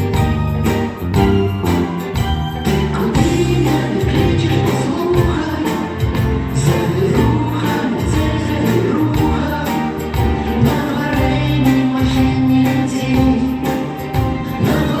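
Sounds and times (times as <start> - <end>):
band playing with steady beat: 0.0 - 15.0
person singing: 2.6 - 15.0.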